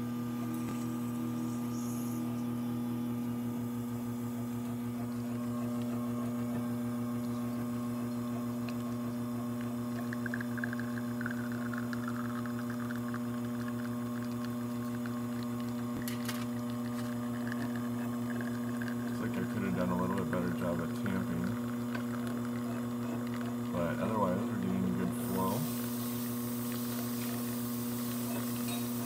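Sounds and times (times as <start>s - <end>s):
espresso machine pump humming: 0.0s - 29.0s
espresso trickling into cup: 4.5s - 29.0s.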